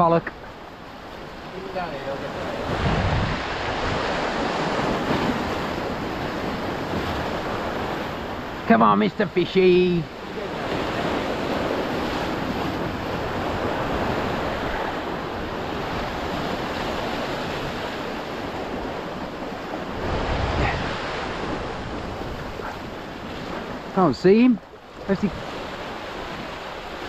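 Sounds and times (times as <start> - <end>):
sea waves washing against rocks: 0.0 - 27.0
wind on microphone: 0.3 - 8.6, 10.1 - 24.0.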